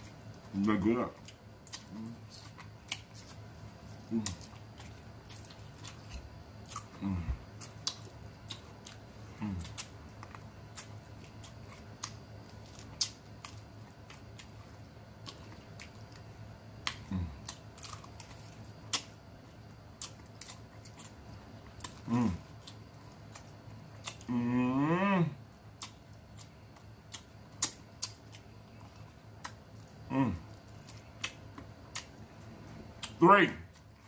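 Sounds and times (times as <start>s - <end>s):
wet chewing smacks: 0.0s - 19.2s, 25.5s - 34.0s.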